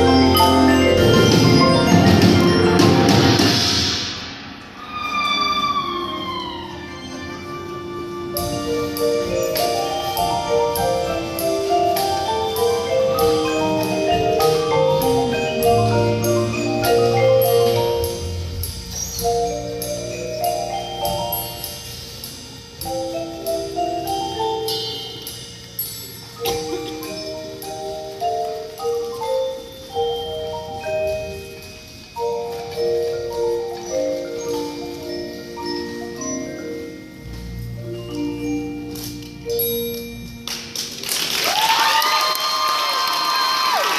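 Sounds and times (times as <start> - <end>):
sustained melodic notes: 0.0 - 41.0
mallet percussion: 0.0 - 43.9.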